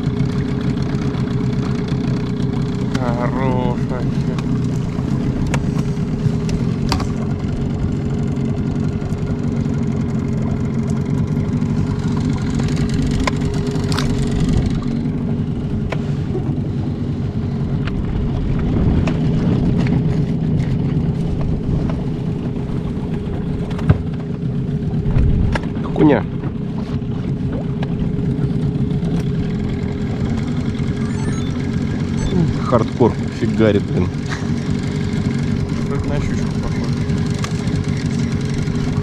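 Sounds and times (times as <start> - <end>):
boat motor running: 0.0 - 39.0.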